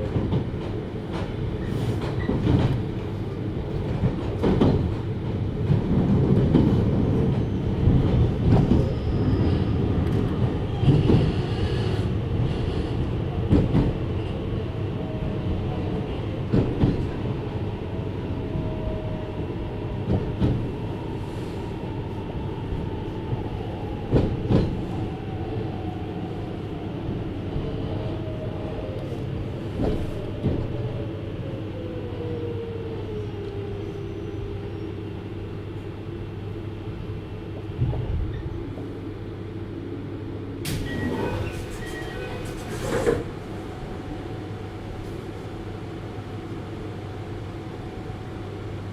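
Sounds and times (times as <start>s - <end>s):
train wheels rumbling: 0.0s - 48.9s.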